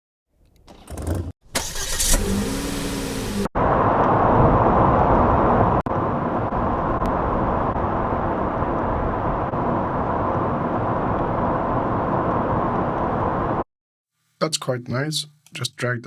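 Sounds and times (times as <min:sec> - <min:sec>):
car engine and road noise: 0:00.4 - 0:13.6.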